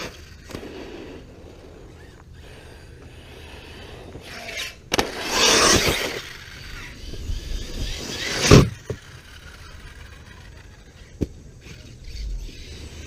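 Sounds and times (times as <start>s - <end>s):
rc truck clattering on ramp: 0.0s - 13.0s
rc truck driving: 0.0s - 13.0s.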